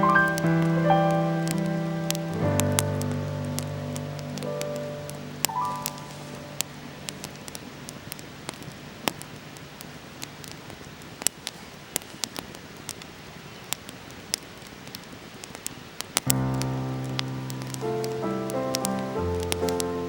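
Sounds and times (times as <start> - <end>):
campfire crackling and popping: 0.0 - 20.0
soft hiss of burning: 0.0 - 20.0.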